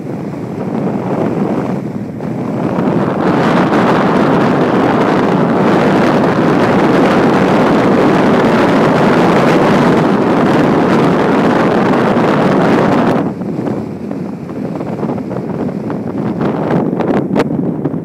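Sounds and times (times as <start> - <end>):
wind roaring over microphone: 0.0 - 18.0.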